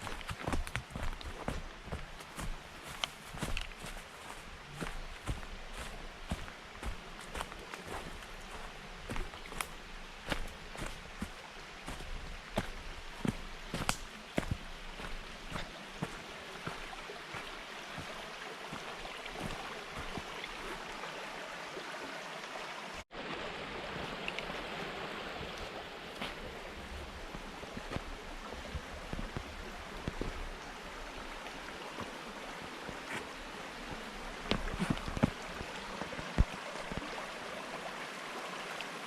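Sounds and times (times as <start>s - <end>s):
water rushing in a stream: 0.0s - 39.0s.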